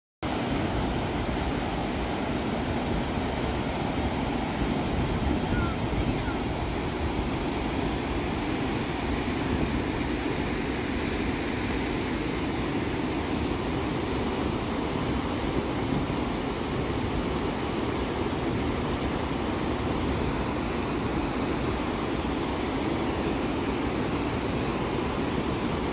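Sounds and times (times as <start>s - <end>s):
waterfall rushing: 0.3s - 25.9s.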